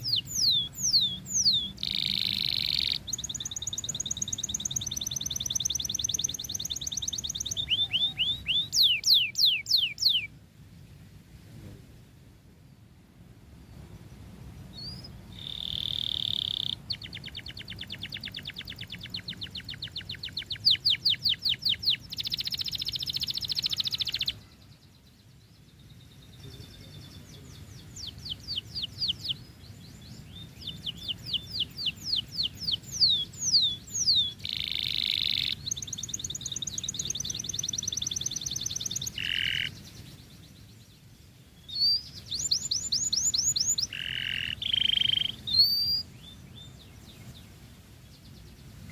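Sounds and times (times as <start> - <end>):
canary singing trills: 0.0 - 10.4, 14.6 - 48.9.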